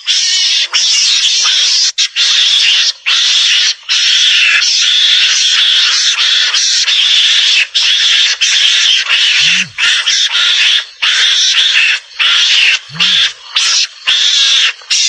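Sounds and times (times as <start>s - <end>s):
mongoose chattering squeal: 0.0s - 15.0s.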